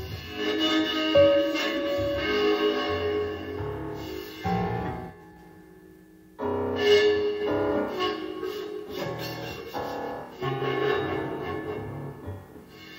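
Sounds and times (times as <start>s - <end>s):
piano chords: 0.0s - 12.9s.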